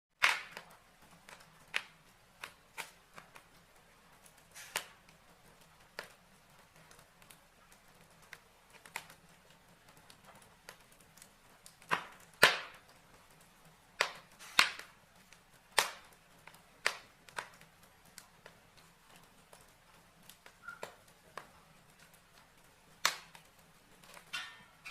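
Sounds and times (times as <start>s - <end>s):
logs crackling in fireplace: 0.1s - 24.9s.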